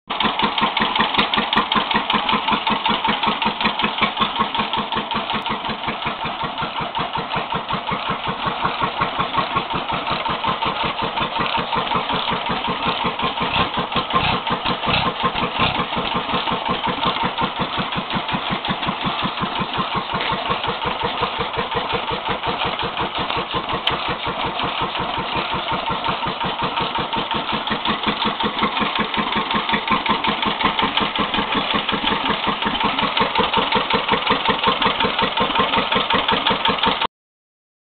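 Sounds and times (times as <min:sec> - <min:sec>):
stationary engines running: 0:00.1 - 0:37.1.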